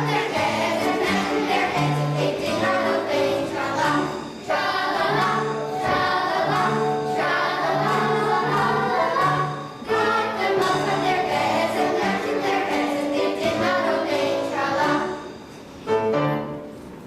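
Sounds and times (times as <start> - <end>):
choir singing: 0.0 - 15.4.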